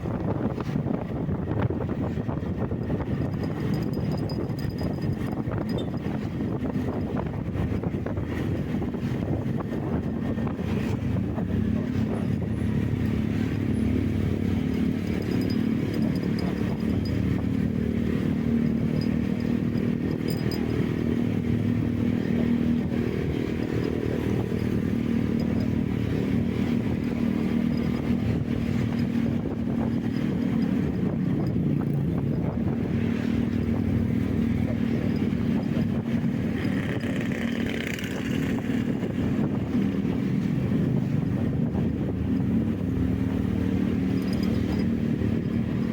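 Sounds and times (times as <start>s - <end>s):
road and wind noise: 0.0s - 45.9s
vehicle engine running: 0.0s - 45.9s.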